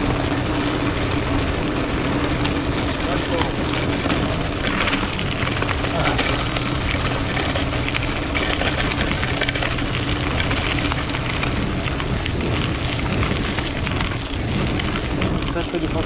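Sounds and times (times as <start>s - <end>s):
bike rattling: 0.0s - 16.0s
bike tyres crunching on gravel: 0.0s - 16.0s.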